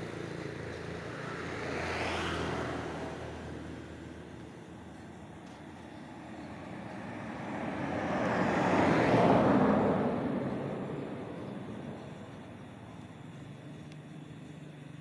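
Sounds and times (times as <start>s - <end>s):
vehicle passing by: 0.0s - 12.6s.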